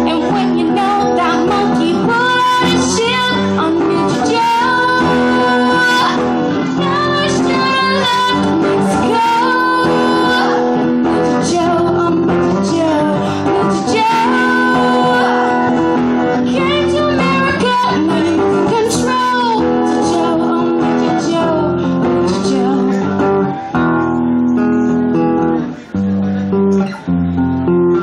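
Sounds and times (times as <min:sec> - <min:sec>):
woman singing: 0:00.0 - 0:23.3
acoustic guitar: 0:00.0 - 0:28.0.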